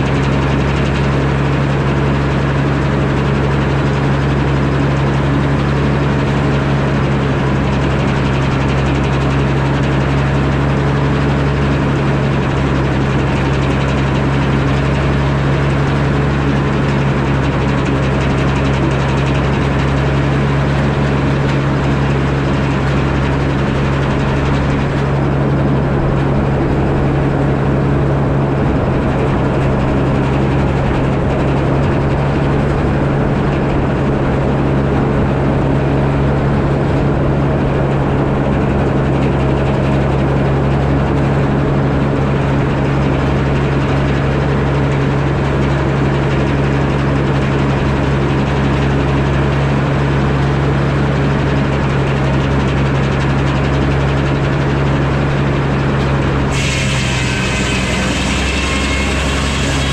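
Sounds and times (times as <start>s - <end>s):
sawmill engine humming: 0.0s - 59.9s.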